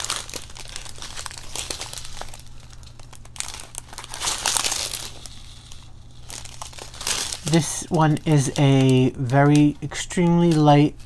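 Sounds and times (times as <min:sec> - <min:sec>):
plastic packets crinkling: 0:00.0 - 0:11.0.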